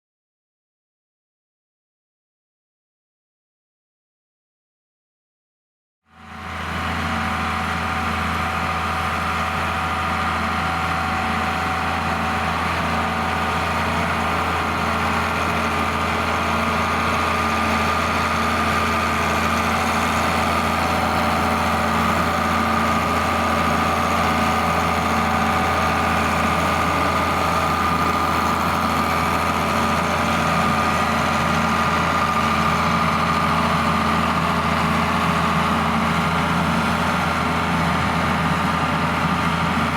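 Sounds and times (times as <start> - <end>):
tractor diesel engine running: 6.2 - 39.9.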